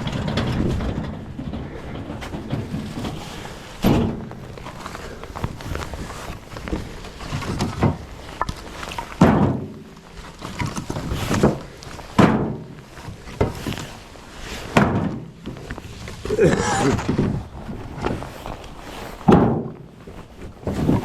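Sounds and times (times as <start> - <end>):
firewood knocking together: 0.0 - 13.9, 14.7 - 18.2, 19.2 - 20.0.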